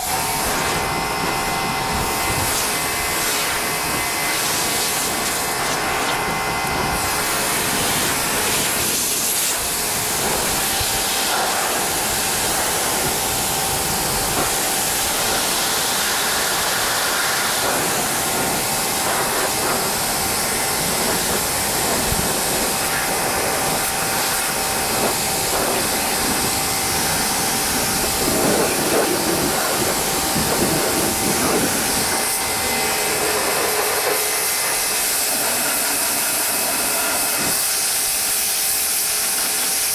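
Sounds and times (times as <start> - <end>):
pressure washer spray hiss: 0.0 - 39.9
washer motor and pump whine: 0.0 - 39.9.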